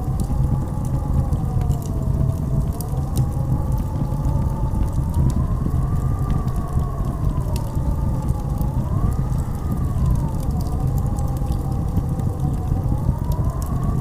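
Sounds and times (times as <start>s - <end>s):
deep steady rumble: 0.0s - 14.0s
wind howling: 0.0s - 14.0s.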